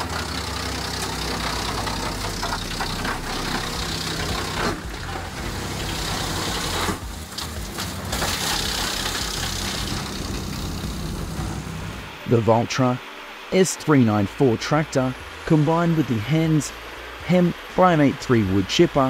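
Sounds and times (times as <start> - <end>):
broad rushing noise: 0.0 - 19.0
wood chipper humming: 0.0 - 19.0.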